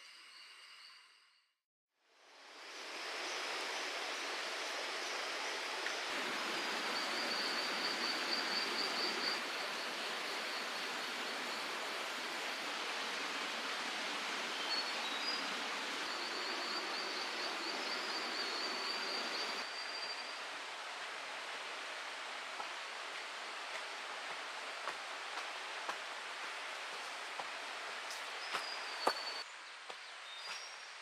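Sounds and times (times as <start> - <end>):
stream water rushing: 2.6 - 29.4.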